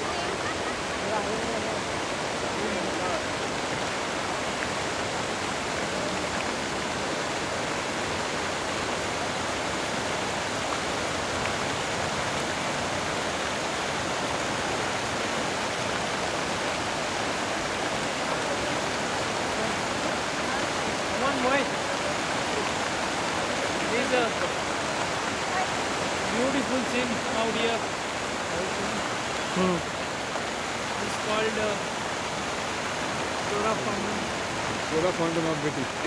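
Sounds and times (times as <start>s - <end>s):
fountain water splashing: 0.0s - 36.0s.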